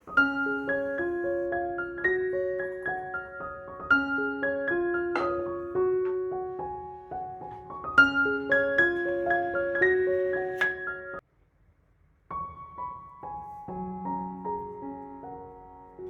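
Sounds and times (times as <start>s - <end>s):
gentle solo piano melody: 0.0s - 11.2s, 12.3s - 16.0s.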